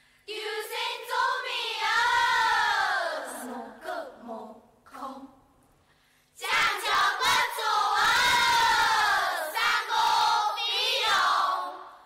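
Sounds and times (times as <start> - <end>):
women chanting in unison: 0.3 - 5.4, 6.4 - 12.0.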